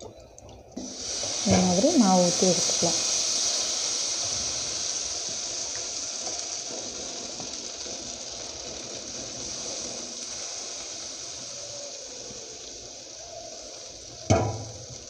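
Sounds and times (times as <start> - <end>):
batter sizzling on griddle: 0.8 - 15.0.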